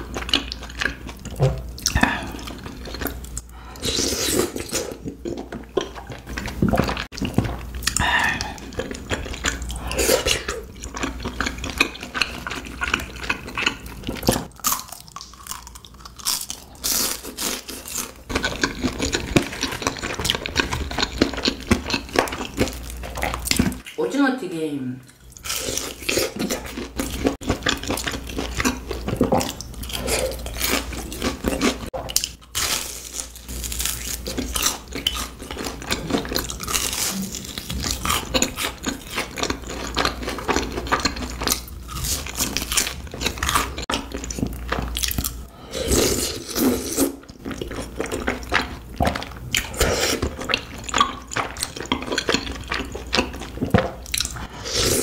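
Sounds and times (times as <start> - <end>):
person chewing crunchy snacks: 0.0 - 23.9, 25.2 - 55.0.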